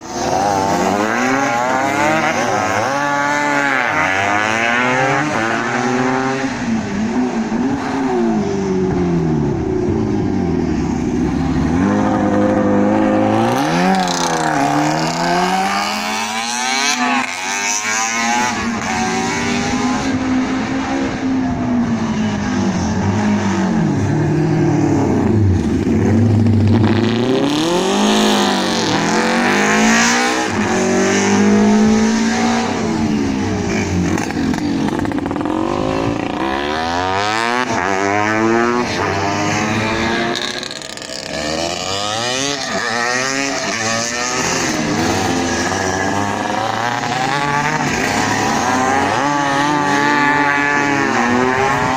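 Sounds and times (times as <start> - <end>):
racing motorcycle engines revving: 0.0 - 51.9.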